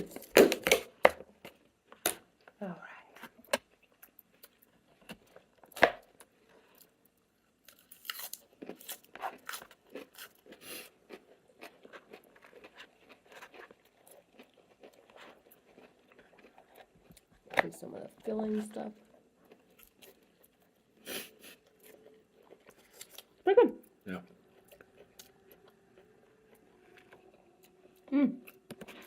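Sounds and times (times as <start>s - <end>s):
chewing and crunching food: 0.0s - 29.0s.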